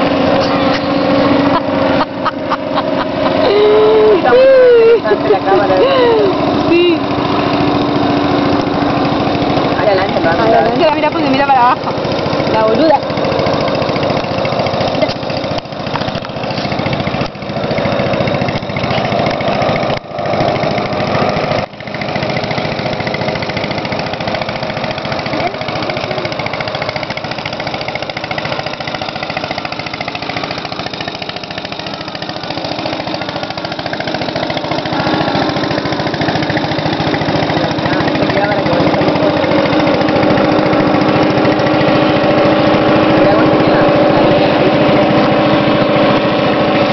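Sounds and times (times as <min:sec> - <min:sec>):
helicopter rotor chop: 0:00.0 - 0:46.9.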